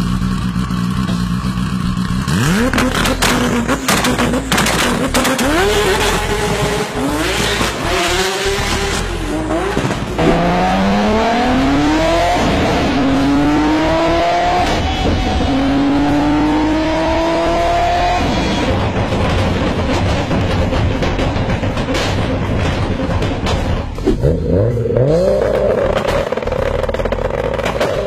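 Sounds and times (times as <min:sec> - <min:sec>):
car engine at full throttle upshifting: 0:00.0 - 0:28.0
car engine revving with crackling exhaust: 0:00.0 - 0:28.0.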